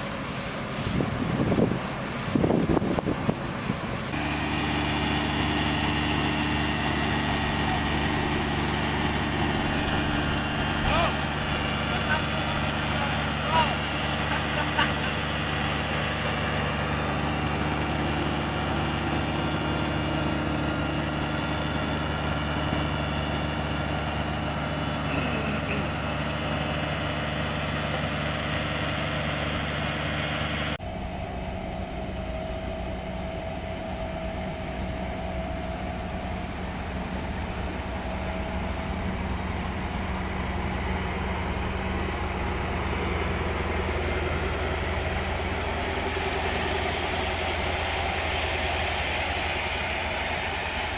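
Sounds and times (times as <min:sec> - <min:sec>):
heavy machinery engine drone: 0:00.0 - 0:50.9
machine engine running: 0:00.0 - 0:50.9.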